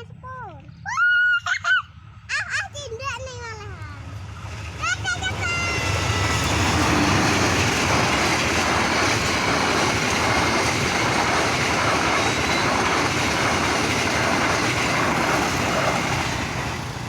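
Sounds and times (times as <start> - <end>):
train wheels rushing on rails: 2.0 - 17.0.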